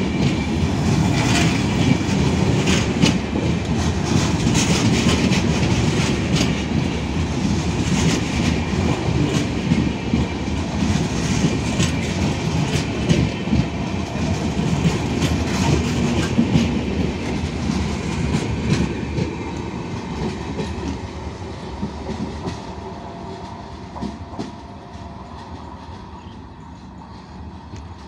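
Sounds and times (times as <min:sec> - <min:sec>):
train wheels clickety-clack: 0:00.0 - 0:28.0.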